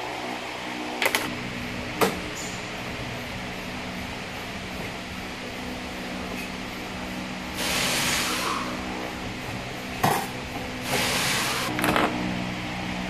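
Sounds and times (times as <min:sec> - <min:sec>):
workshop hum: 0:00.0 - 0:13.0.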